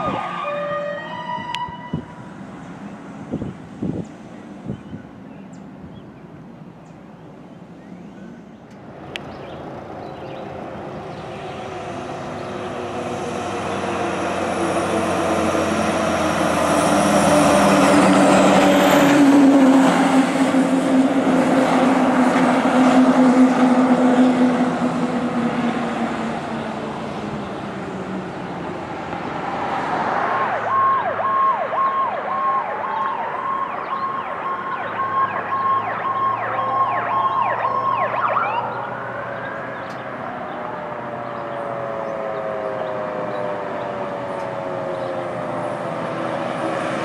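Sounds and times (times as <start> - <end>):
truck diesel engine passing by: 8.4 - 47.0.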